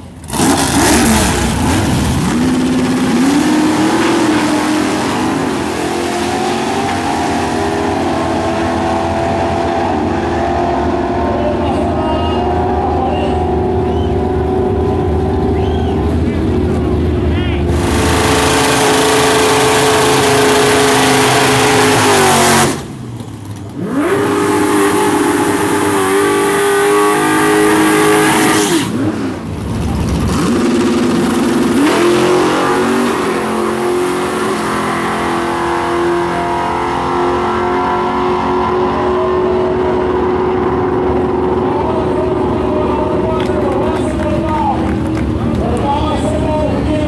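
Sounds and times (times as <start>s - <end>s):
race car engines revving: 0.0s - 47.0s
race cars accelerating: 0.0s - 47.0s.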